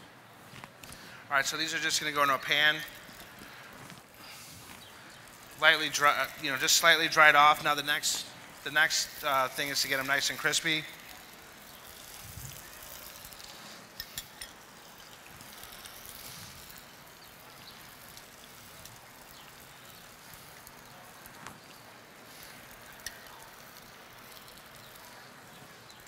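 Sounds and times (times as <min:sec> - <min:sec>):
faint sizzle in a pan: 0:01.0 - 0:26.0.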